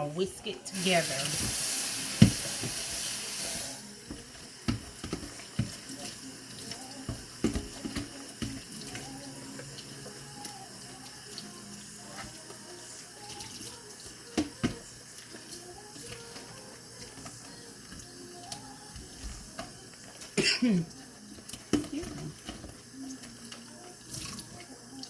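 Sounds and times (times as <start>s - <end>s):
tap water running into sink: 0.8s - 25.0s.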